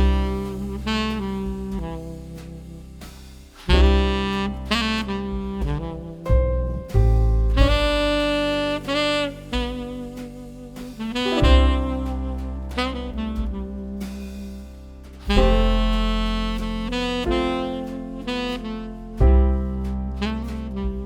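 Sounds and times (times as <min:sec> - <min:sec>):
jazzy saxophone tune: 0:00.0 - 0:21.0.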